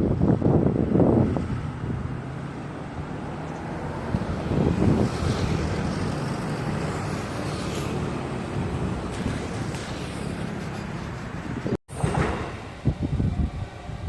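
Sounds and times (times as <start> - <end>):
vehicle traffic rumbling: 0.0 - 14.0
wind buffeting microphone: 0.0 - 14.0.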